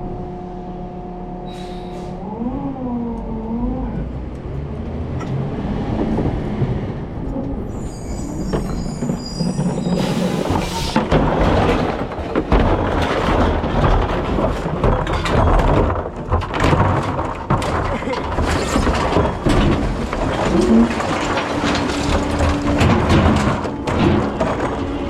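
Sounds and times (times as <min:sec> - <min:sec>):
recycling truck rumbling with knocks: 0:04.1 - 0:25.0.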